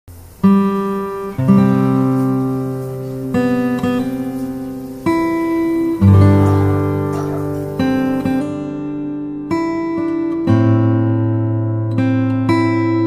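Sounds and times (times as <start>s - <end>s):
acoustic guitar chords: 0.1s - 13.0s.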